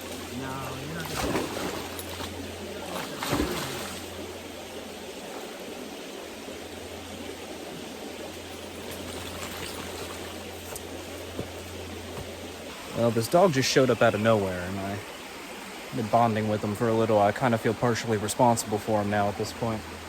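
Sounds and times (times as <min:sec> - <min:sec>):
creek water running over rocks: 0:00.0 - 0:20.0.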